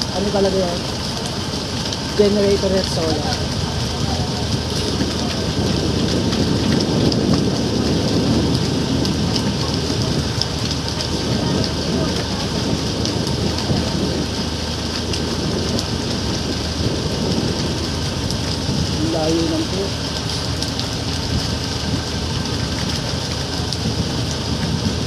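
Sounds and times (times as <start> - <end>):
motorboat engine hum: 0.0 - 25.0
water rushing past hull: 0.0 - 25.0
wind on microphone: 0.0 - 25.0.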